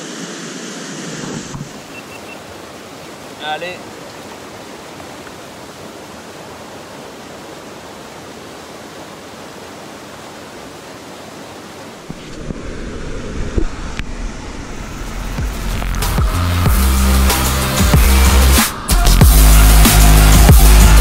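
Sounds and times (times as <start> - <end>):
stream rushing over cascades: 0.0 - 21.0.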